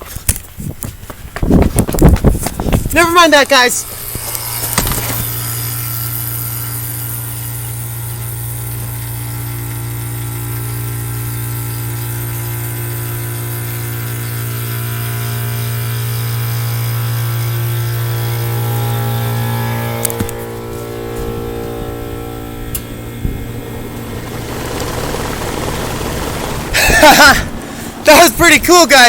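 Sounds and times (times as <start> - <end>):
siren rotor low drone: 3.7 - 28.9.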